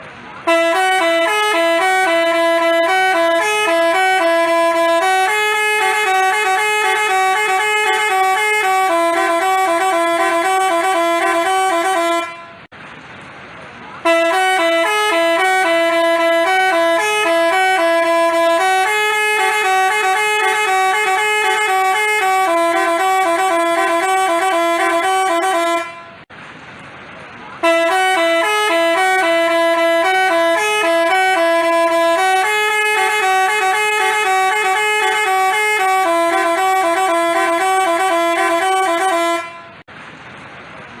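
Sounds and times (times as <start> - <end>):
musical bus horn tune: 0.3 - 12.7, 14.0 - 26.3, 27.6 - 39.9.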